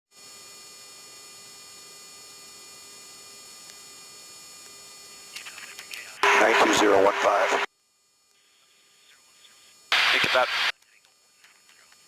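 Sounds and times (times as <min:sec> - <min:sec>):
electrical hum with hiss: 0:00.2 - 0:12.0.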